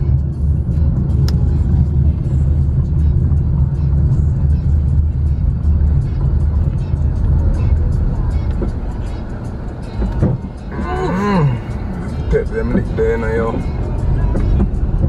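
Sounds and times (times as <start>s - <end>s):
car engine and road rumble: 0.0s - 15.0s
music playing: 0.0s - 15.0s.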